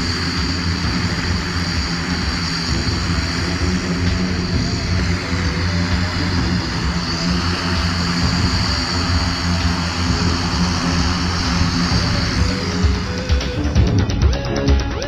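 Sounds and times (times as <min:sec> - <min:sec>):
multicopter rotors humming: 0:00.0 - 0:15.0.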